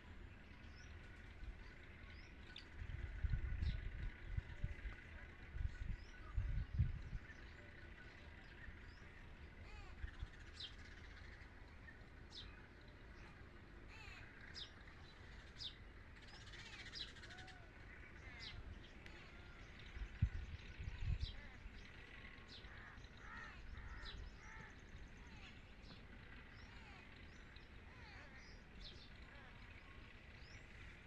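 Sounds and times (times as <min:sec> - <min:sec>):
birds calling and chirping: 0:00.0 - 0:31.0.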